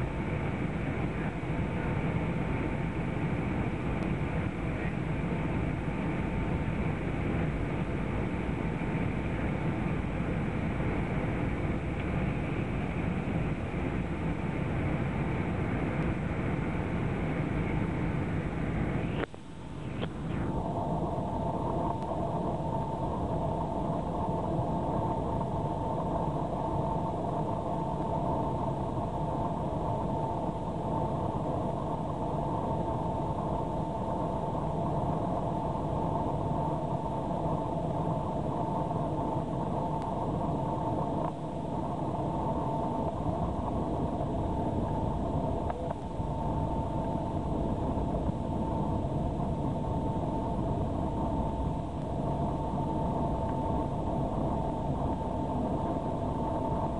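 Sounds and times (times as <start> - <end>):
airliner engines rumbling: 0.0 - 56.9
steady whine: 0.0 - 56.9.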